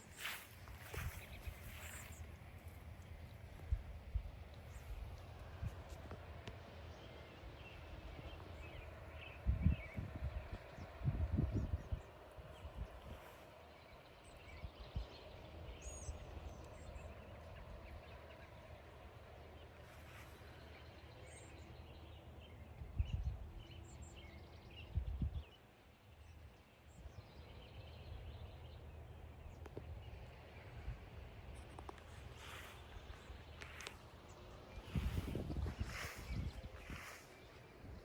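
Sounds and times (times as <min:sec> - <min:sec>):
low steady rumble: 0:00.0 - 0:38.0.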